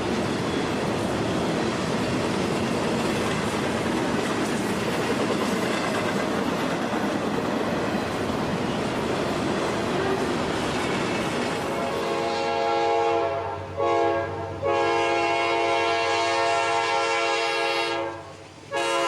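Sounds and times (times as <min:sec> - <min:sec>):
freight train wheels on rail: 0:00.0 - 0:19.0.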